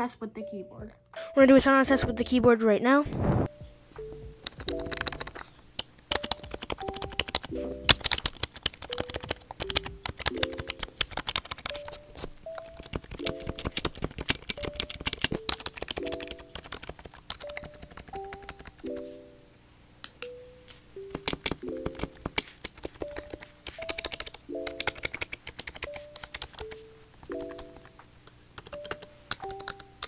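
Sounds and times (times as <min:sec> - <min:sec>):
keyboard typing clicks: 0:04.0 - 0:19.2, 0:21.0 - 0:30.0.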